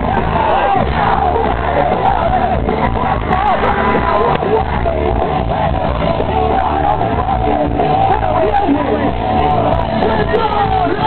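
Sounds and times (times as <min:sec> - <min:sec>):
loud hard rock band: 0:00.0 - 0:11.0.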